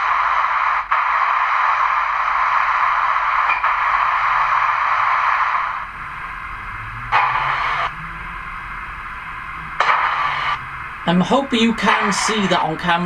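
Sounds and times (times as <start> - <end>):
short burst of steam: 0.0 - 13.0
steam hiss from small speaker: 0.0 - 13.0
faint low hum rising in pitch: 2.1 - 13.0.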